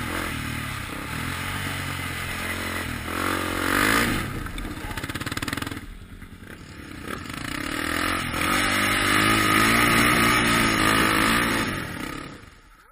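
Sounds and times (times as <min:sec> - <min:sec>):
quad bike engine revving: 0:00.0 - 0:12.7.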